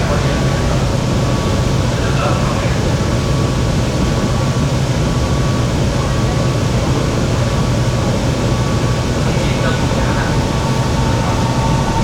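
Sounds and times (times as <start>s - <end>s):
thin train whine: 0.0s - 12.0s
train rumbling: 0.0s - 12.0s.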